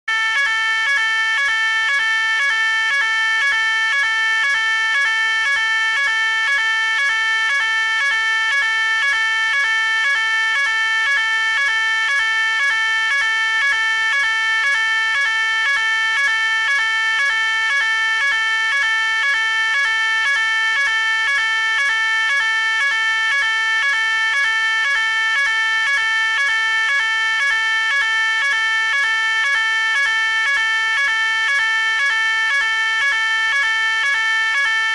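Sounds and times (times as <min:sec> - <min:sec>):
fire alarm pulsing tone: 0:00.1 - 0:34.9.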